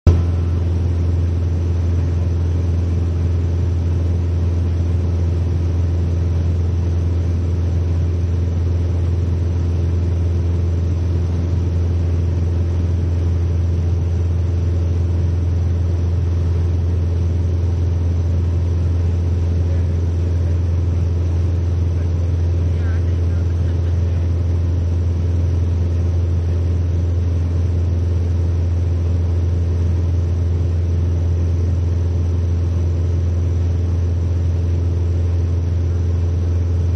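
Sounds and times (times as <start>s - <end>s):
airplane engine drone in cabin: 0.1s - 36.9s.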